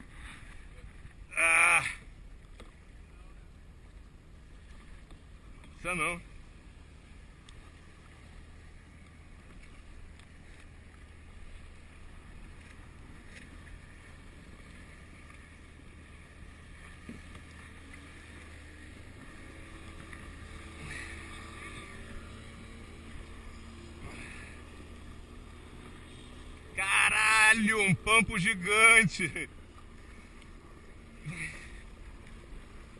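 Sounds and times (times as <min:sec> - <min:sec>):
faint steady hum: 0:00.0 - 0:32.9
water lapping around kayak: 0:00.0 - 0:32.9.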